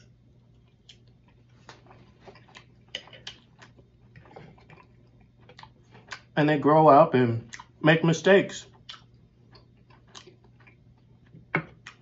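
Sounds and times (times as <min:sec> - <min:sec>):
man chewing food: 0:00.0 - 0:06.4, 0:07.4 - 0:07.8, 0:08.6 - 0:12.0
faint low hum: 0:00.0 - 0:12.0.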